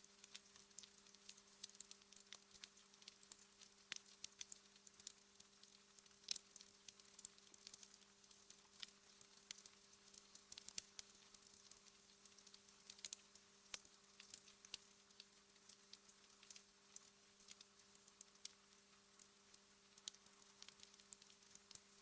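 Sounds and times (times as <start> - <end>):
faint steady hum: 0.0 - 22.0
wood fire crackling: 0.0 - 22.0.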